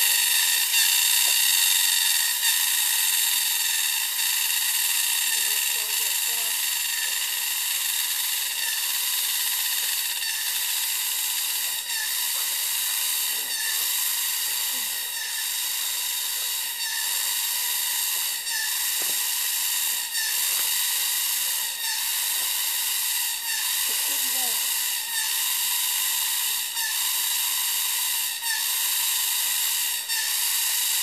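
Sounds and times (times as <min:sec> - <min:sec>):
cicadas buzzing: 0:00.0 - 0:31.0.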